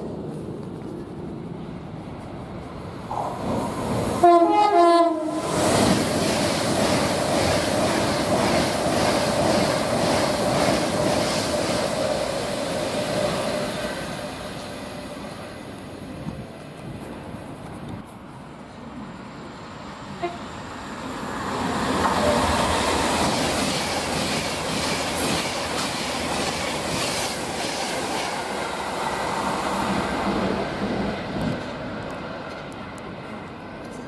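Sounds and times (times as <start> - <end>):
electric train passing at speed: 0.0 - 34.0.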